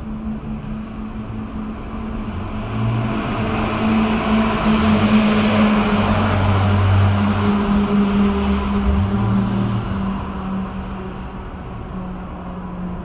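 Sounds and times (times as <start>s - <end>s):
low rumble: 0.0s - 12.6s
rushing noise: 1.3s - 12.2s.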